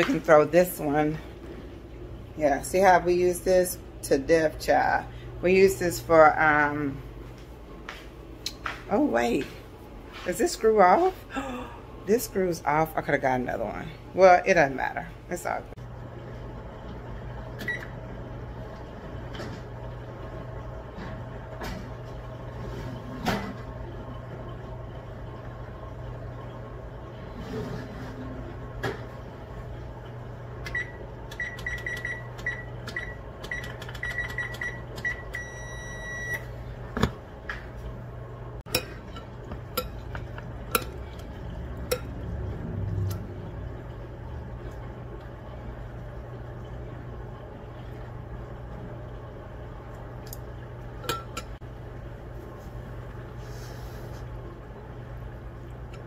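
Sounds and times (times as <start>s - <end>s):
low appliance hum: 0.0s - 56.0s.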